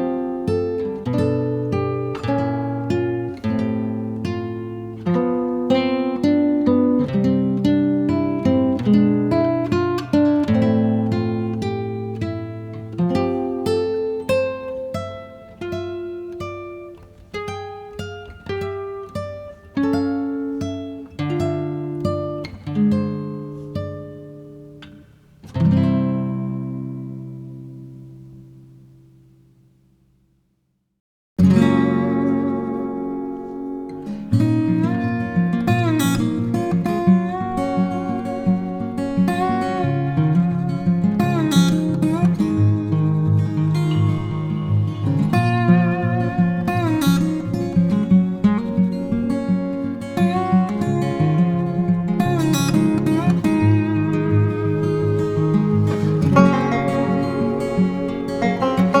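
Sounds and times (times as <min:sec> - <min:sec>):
acoustic guitar music: 0:00.0 - 0:30.4, 0:31.4 - 0:59.0.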